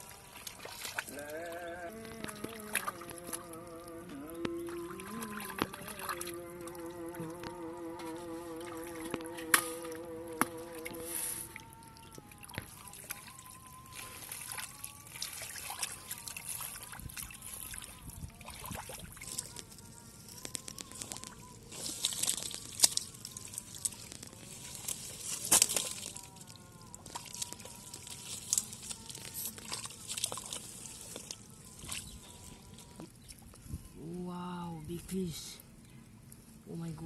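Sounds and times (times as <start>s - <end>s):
muddy water sloshing and splashing: 0.0s - 34.0s.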